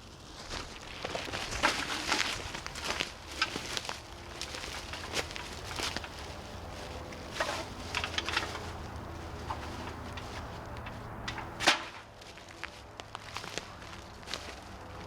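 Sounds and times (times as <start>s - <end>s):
gear rustling and clicking: 0.0s - 15.0s.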